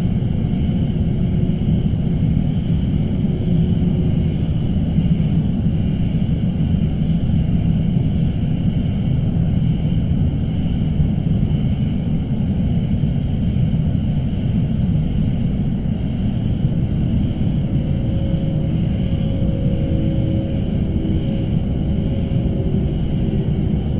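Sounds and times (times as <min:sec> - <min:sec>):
dark low rumbling drone: 0:00.0 - 0:23.9.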